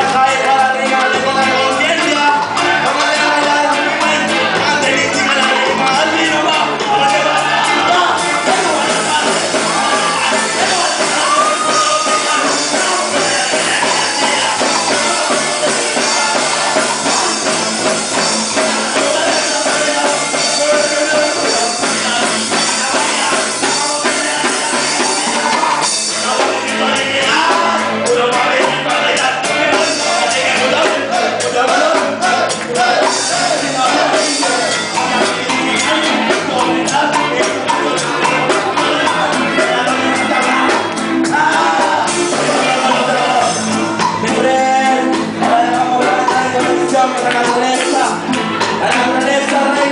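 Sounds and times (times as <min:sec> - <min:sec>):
loud music with singing: 0:00.0 - 0:49.9
steady percussion beat: 0:00.0 - 0:49.9.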